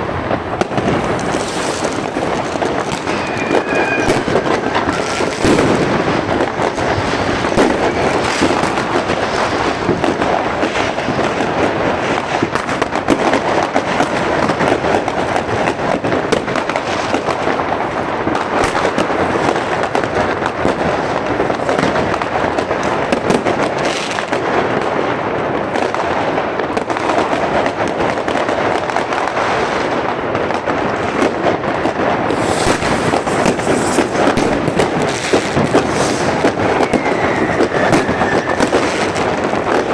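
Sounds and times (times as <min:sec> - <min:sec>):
fireworks and firecrackers crackling: 0:00.0 - 0:39.9.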